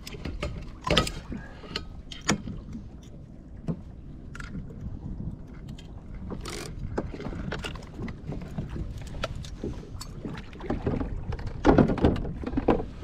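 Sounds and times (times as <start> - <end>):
fishing gear clicking and scraping: 0.0 - 3.2, 5.4 - 13.0.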